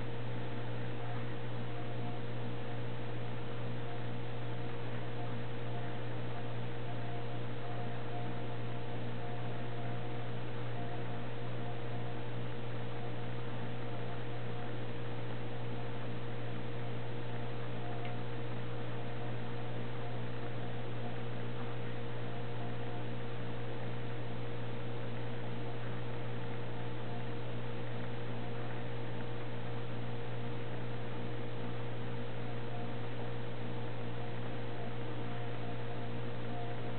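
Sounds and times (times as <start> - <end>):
electrical hum: 0.0 - 36.9.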